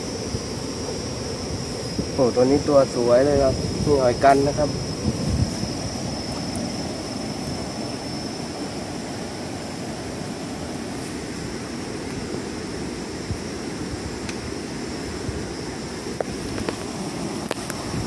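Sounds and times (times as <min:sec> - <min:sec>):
rushing outdoor noise: 0:00.0 - 0:18.0
thin high whine: 0:00.0 - 0:18.0.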